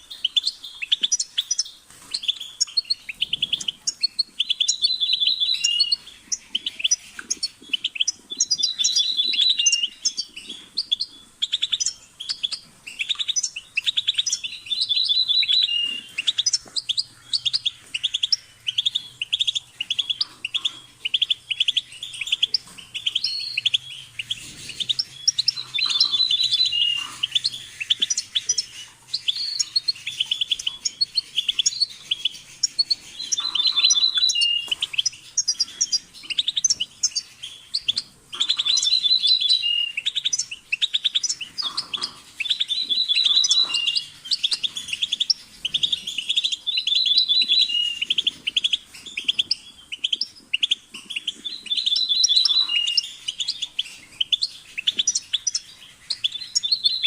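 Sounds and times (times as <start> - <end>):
goldfinch twittering song: 0.0 - 57.0.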